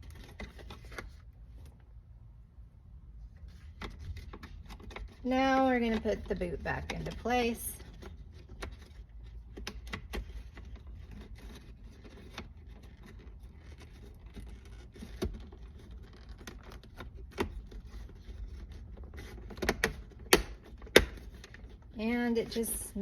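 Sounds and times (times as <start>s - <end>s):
light clicks knocks and scrapes: 0.0s - 1.9s, 3.4s - 23.0s.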